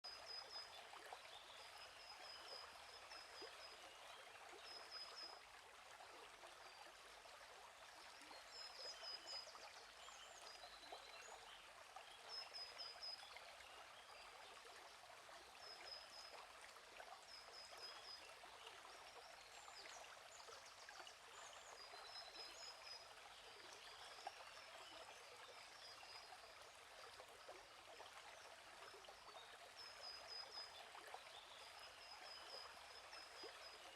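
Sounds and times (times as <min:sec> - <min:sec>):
stream trickling: 0:00.0 - 0:33.9.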